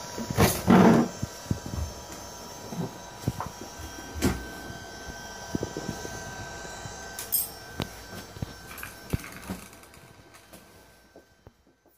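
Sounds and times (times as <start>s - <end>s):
thin high motor whine: 0.0s - 11.9s.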